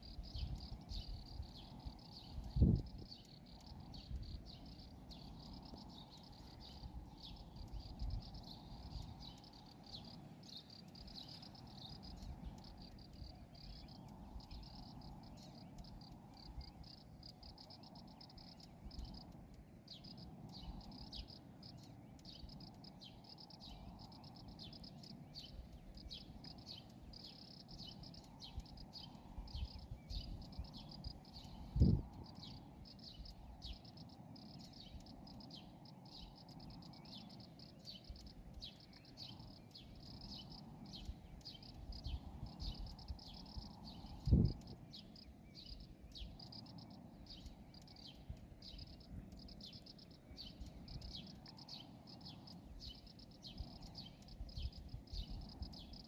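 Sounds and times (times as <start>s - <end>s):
crickets chirping: 0.0s - 56.0s
low background rumble: 0.0s - 56.0s.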